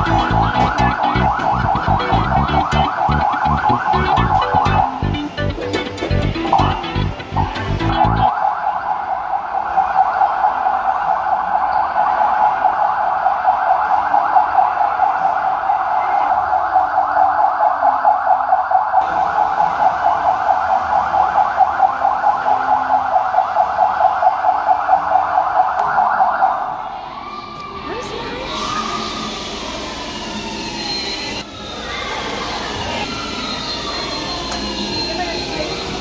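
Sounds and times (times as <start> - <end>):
fast-warbling siren: 0.0 - 27.4, 28.5 - 36.0.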